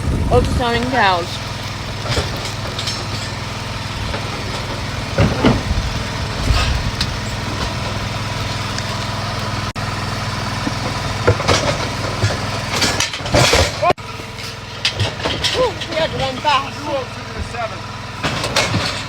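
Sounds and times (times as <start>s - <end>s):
low machine drone: 0.0s - 19.0s.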